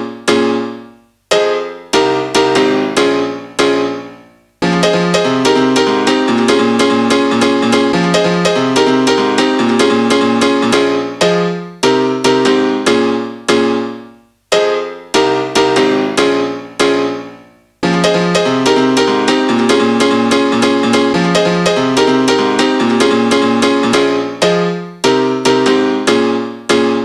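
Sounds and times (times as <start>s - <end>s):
piano chords: 0.0s - 27.0s.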